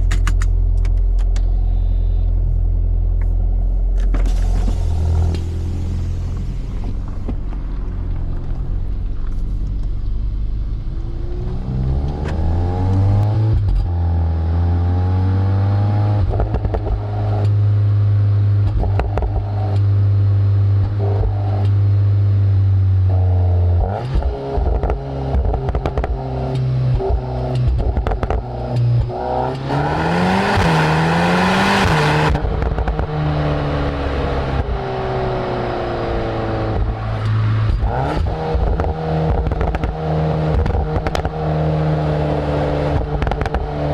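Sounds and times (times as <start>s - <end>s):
exhaust crackles and pops: 0.0s - 14.0s, 16.2s - 17.6s, 18.6s - 20.0s, 23.1s - 43.9s
car exhaust revving: 0.0s - 43.9s.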